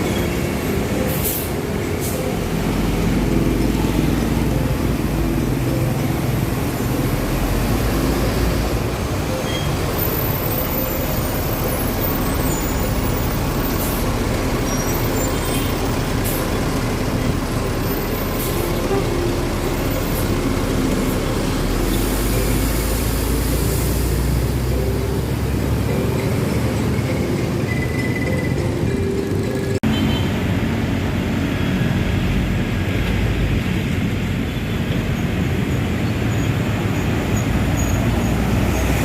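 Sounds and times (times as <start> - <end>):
bus engine running: 0.0 - 39.0
street traffic: 0.0 - 39.0.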